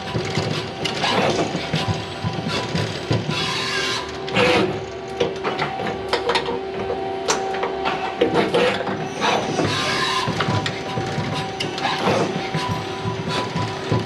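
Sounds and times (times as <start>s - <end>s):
lathe mechanisms clicking and clunking: 0.0s - 14.0s
steady machine whine: 0.0s - 14.0s.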